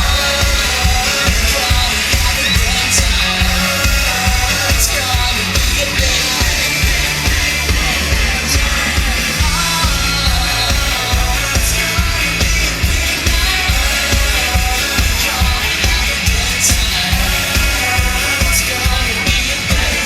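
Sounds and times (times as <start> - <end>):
live pop-rock band: 0.0 - 20.0
voices singing: 0.0 - 20.0.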